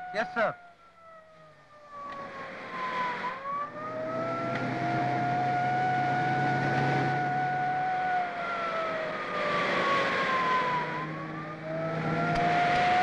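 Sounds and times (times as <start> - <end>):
police siren wailing: 0.0 - 13.0
vehicle engines approaching: 1.0 - 13.0.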